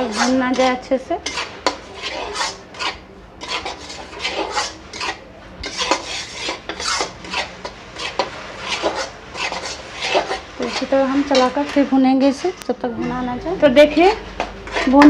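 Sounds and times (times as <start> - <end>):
metal spatula scraping metal pan: 0.0 - 12.6, 14.0 - 15.0.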